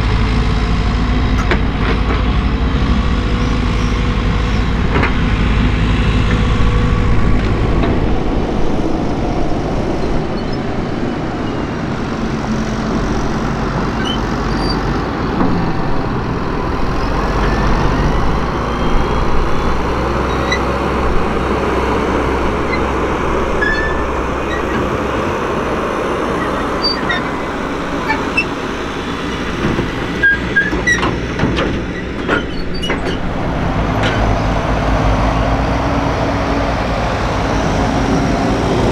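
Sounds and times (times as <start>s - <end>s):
excavator diesel engine: 0.0s - 38.9s
tractor engine pulling trailer: 0.0s - 38.9s.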